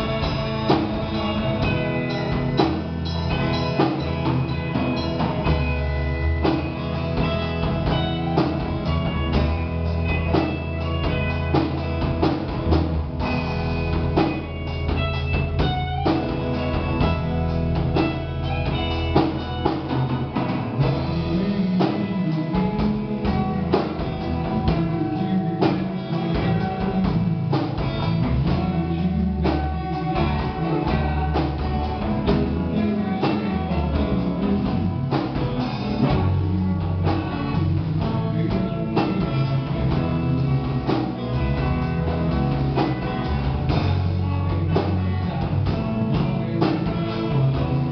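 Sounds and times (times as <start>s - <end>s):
rock band playing: 0.0s - 47.9s
steady drums: 0.0s - 47.9s.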